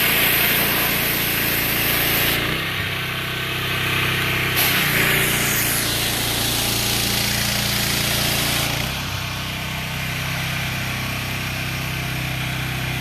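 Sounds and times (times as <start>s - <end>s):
high-pressure water spray hissing: 0.0s - 13.0s
pressure washer engine running: 0.0s - 13.0s.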